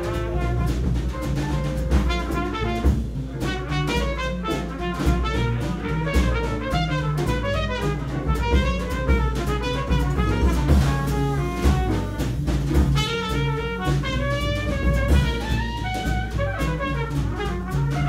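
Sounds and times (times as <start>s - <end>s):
drum kit cymbals: 0.0s - 18.0s
piano: 0.0s - 18.0s
trumpet solo: 0.0s - 18.0s.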